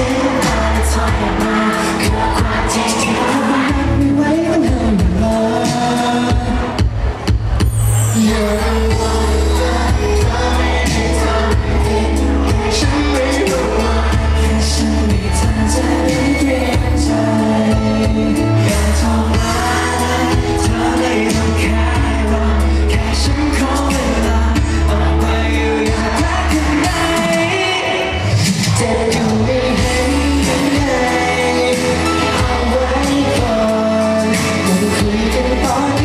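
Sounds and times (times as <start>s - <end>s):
men singing: 0.0s - 6.8s, 8.1s - 36.0s
heavy bass beat: 0.0s - 36.0s
pop song over sound system: 0.0s - 36.0s.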